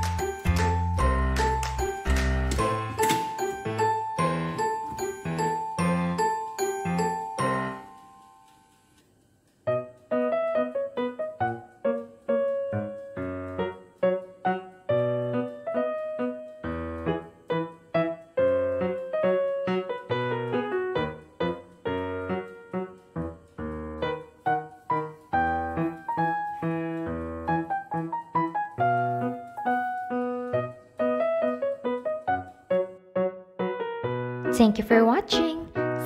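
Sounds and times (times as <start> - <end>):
piano music: 0.0 - 8.9, 9.6 - 36.0.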